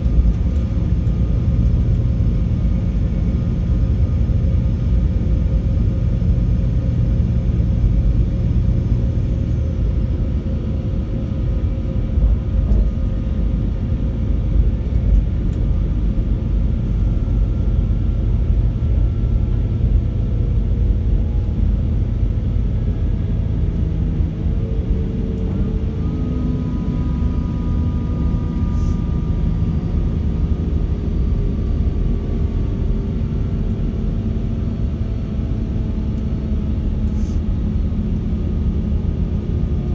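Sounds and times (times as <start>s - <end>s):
diesel train engine rumbling: 0.0s - 39.9s.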